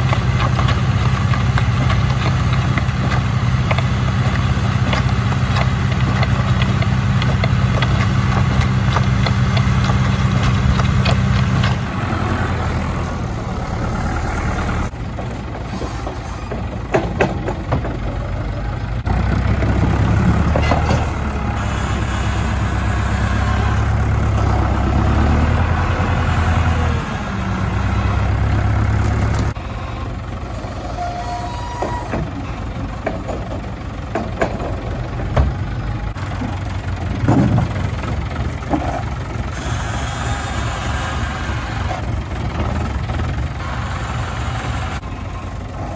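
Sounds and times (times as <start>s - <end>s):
tractor diesel engines running: 0.0s - 45.9s.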